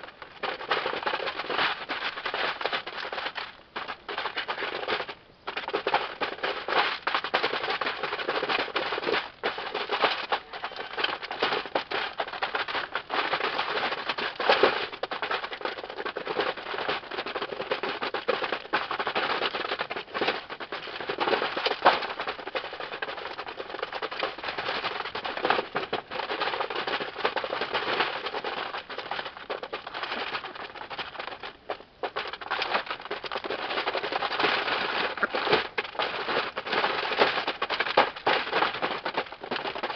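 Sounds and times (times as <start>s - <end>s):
ducks dabbling through dry feed: 0.0s - 39.9s.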